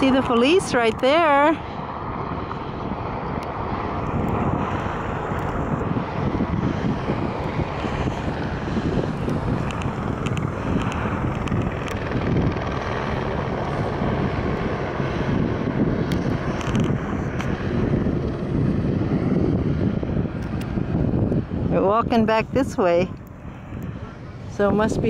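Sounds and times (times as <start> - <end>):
helicopter drone: 0.0 - 25.0
wind buffeting microphone: 0.0 - 25.0.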